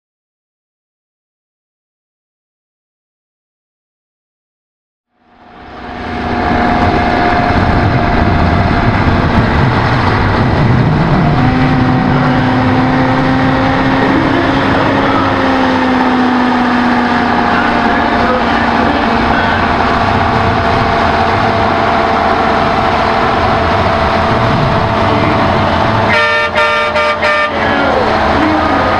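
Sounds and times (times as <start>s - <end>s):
high whine: 5.1s - 28.9s
diesel truck engine under load: 5.2s - 28.9s.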